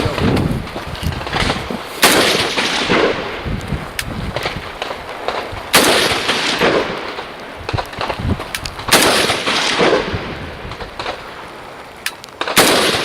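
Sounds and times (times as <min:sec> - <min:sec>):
fainter cracks: 0:00.0 - 0:13.0
rifle shots with rolling echo: 0:00.0 - 0:13.0.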